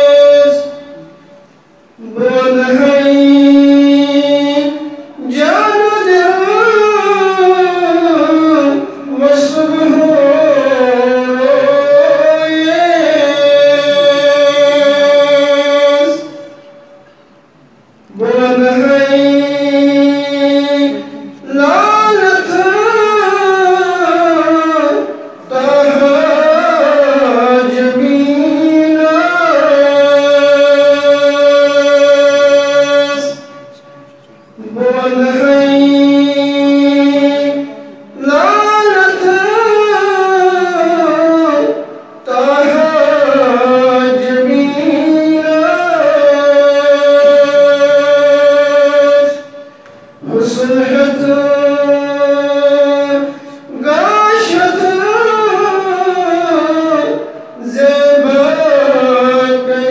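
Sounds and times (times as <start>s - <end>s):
man chanting unaccompanied: 0.0s - 16.9s, 18.1s - 59.9s.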